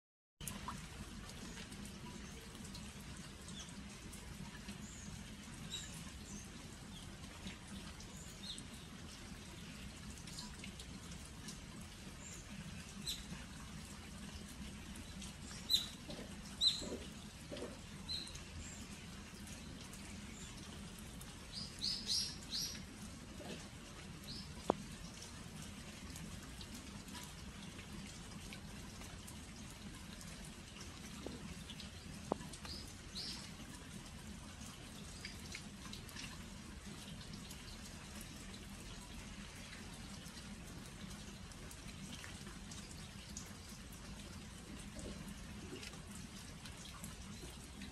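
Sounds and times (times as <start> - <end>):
light rain on jars: 0.4 - 47.9.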